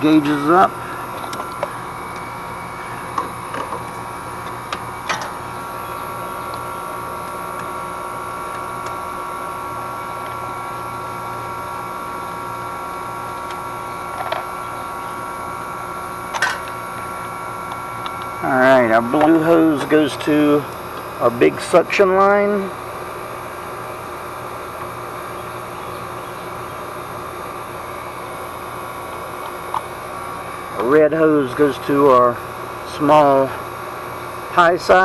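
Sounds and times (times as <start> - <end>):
heat pump unit humming: 0.0 - 35.0
steady whine: 0.0 - 35.0.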